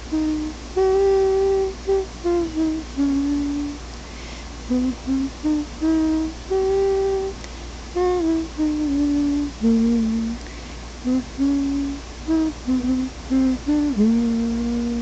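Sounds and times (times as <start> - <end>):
woman humming a lullaby: 0.0 - 3.8, 4.6 - 7.4, 8.0 - 15.0.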